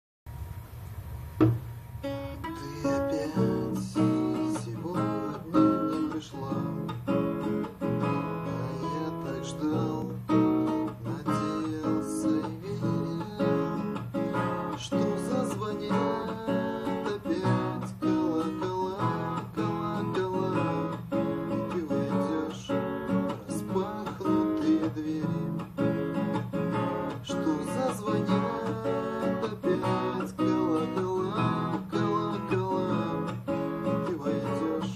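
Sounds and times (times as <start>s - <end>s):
acoustic guitar plucked notes: 1.4s - 34.9s.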